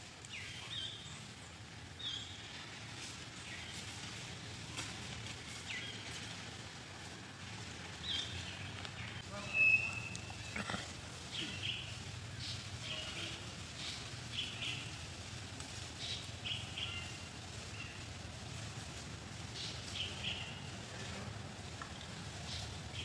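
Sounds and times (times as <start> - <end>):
small birds chirping: 0.1 - 4.2, 4.8 - 6.6, 7.8 - 18.4, 19.4 - 21.2, 21.8 - 23.0.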